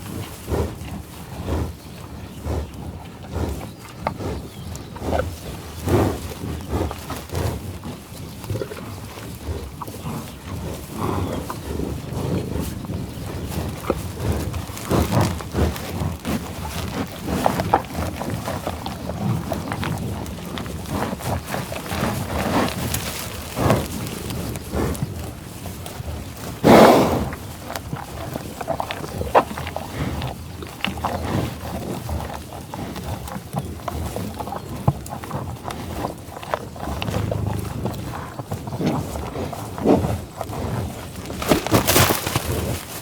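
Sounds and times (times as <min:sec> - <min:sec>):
buffaloes growling and mooing: 0:00.0 - 0:43.0.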